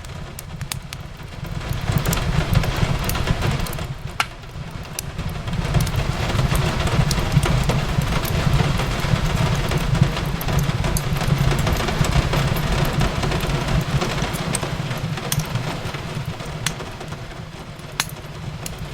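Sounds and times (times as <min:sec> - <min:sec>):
fireplace crackling and popping: 0:00.0 - 0:18.9
rain on a window: 0:00.0 - 0:18.9
steady low rumble: 0:01.0 - 0:18.9.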